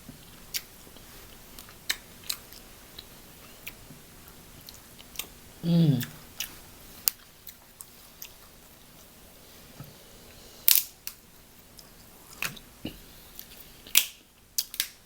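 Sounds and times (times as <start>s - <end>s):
quiet chewing: 0.1s - 14.0s.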